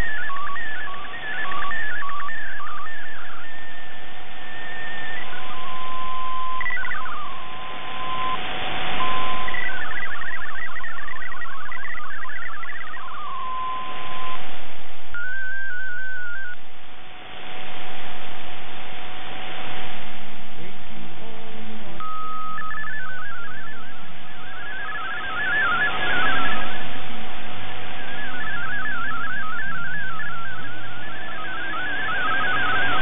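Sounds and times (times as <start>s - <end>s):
warbling digital data beeps: 0.0s - 16.6s, 22.0s - 33.0s
shortwave static hiss: 0.0s - 33.0s.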